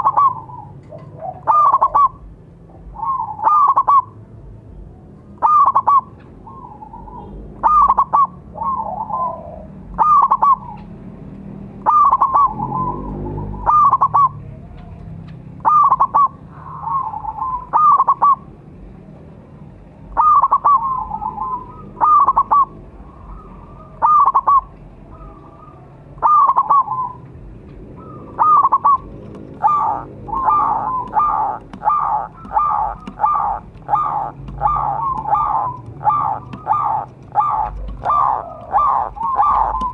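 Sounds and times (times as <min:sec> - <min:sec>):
dove cooing: 0:00.0 - 0:04.3, 0:05.4 - 0:10.9, 0:11.8 - 0:18.6, 0:20.1 - 0:39.9.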